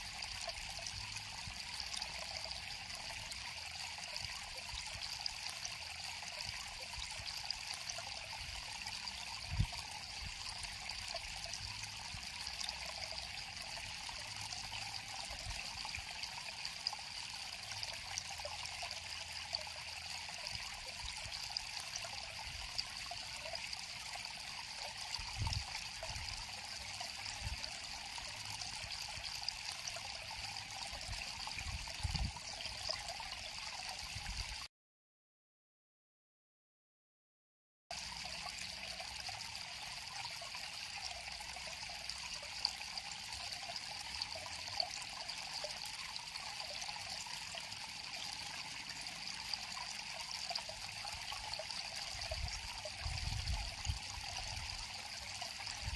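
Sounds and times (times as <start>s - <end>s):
river water flowing: 0.0s - 34.6s, 37.9s - 55.9s.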